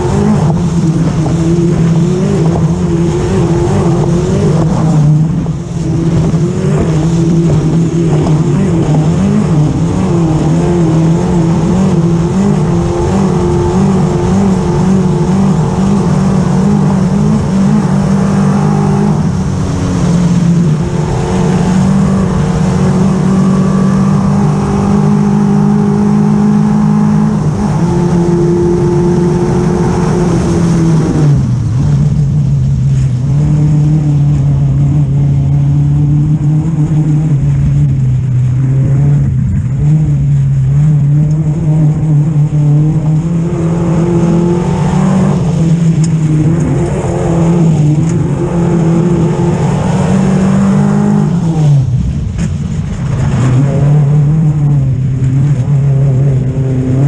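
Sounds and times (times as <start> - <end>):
buggy engine running hard: 0.0 - 57.0
wind and road noise: 0.0 - 57.0.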